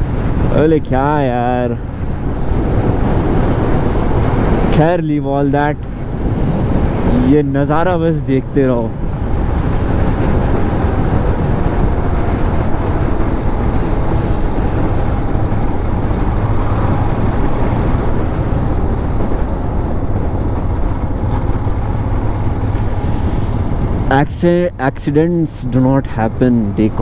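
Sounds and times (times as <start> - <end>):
motorcycle engine hum: 0.0 - 25.2
rushing wind: 0.0 - 27.0.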